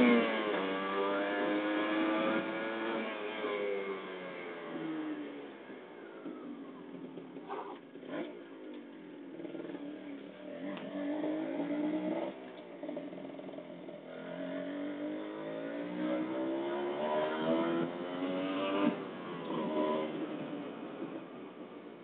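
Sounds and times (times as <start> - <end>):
motorcycle engine revving through gears: 0.0 - 22.0.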